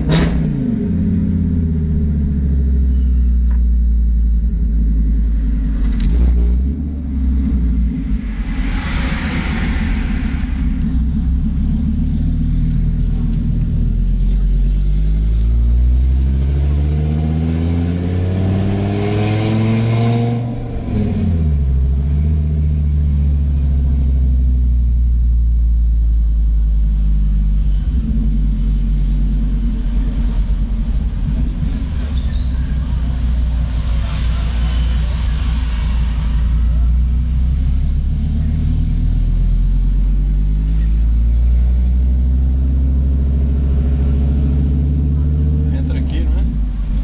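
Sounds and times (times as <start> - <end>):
loud car engine revving: 0.0 - 25.1, 26.5 - 47.0.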